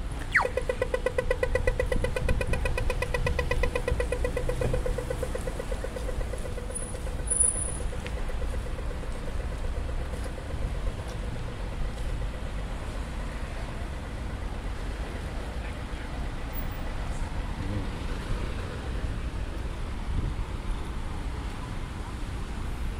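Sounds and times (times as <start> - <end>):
humming vehicle: 0.0 - 22.9
traffic rumble on wet street: 0.0 - 22.9.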